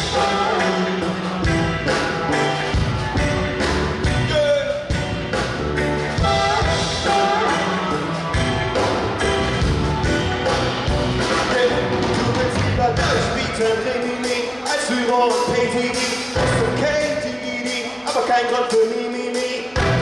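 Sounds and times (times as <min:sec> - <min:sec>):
drums keeping steady beat: 0:00.0 - 0:20.0
live band playing: 0:00.0 - 0:20.0.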